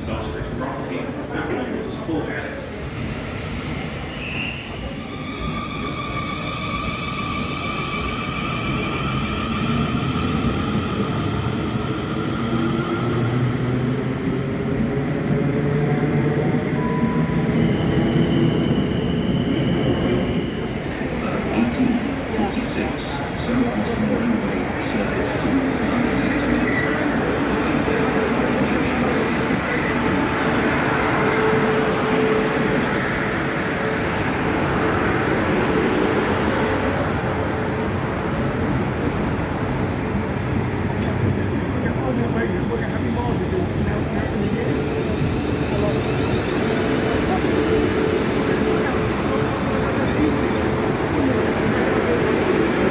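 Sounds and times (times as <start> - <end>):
train running hum: 0.0 - 52.9.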